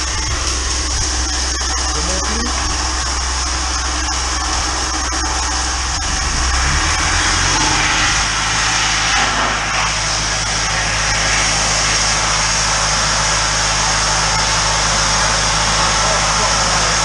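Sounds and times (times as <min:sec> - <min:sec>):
engine hum: 0:00.0 - 0:17.0
water spraying from nozzle: 0:00.0 - 0:17.0.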